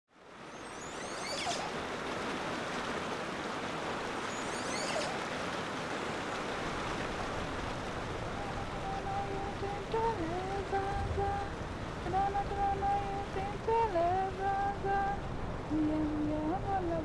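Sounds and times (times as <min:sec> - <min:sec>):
stream rushing over rocks: 0:00.1 - 0:17.0.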